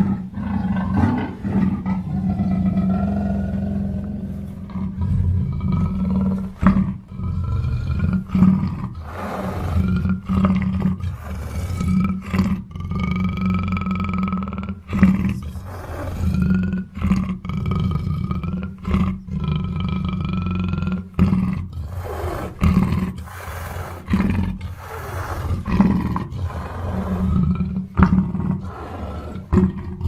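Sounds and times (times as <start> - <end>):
panther growling and snarling: 0.0 - 30.0.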